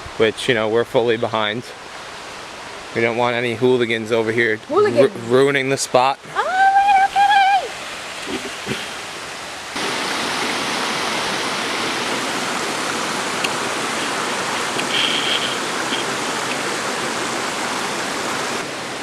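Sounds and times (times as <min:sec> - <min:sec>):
fast-flowing creek rushing: 0:00.8 - 0:19.0.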